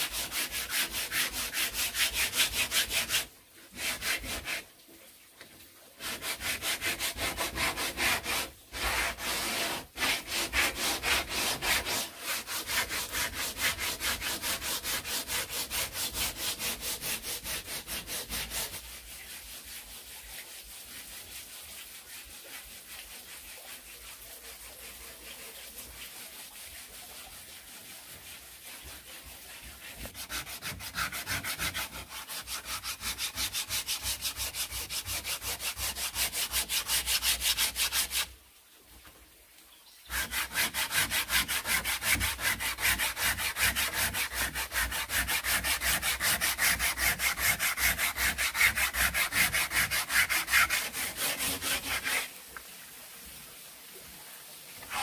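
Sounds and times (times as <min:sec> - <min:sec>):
hand tool strokes on wood: 0:00.0 - 0:04.7, 0:06.0 - 0:38.3, 0:40.1 - 0:52.3, 0:54.8 - 0:55.0.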